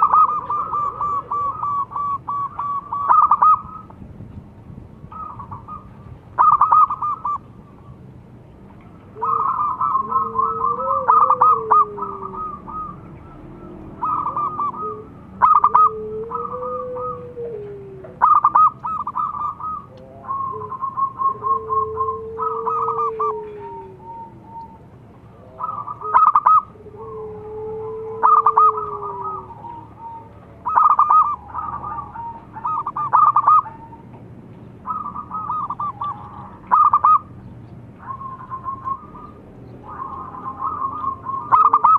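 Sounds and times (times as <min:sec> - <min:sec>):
doves cooing: 0:00.0 - 0:04.0, 0:04.8 - 0:41.9
low rising and falling call: 0:00.0 - 0:04.0, 0:05.0 - 0:41.9.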